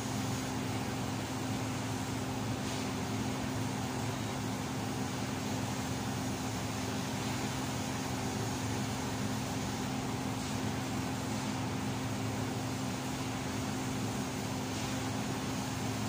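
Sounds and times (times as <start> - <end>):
welder electrical hum: 0.0 - 16.0.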